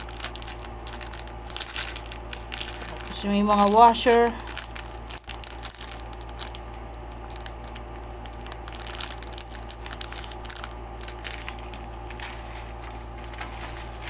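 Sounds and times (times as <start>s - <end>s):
plastic wrapping crinkling: 0.0s - 14.0s
screws rattling in plastic bag: 0.0s - 14.0s
steady low hum: 0.0s - 14.0s.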